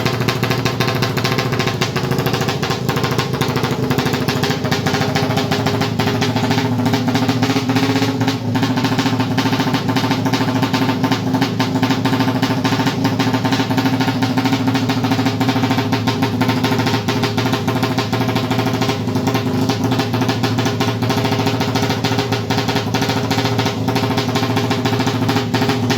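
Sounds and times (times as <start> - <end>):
motorcycle engine loud rapid pulsing: 0.0 - 25.9.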